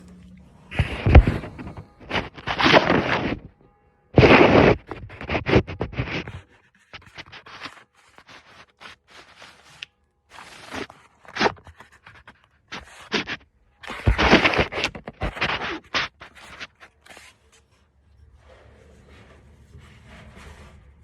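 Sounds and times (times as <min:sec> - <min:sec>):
scraping or rustling bursts: 0:00.0 - 0:03.6, 0:04.2 - 0:21.0.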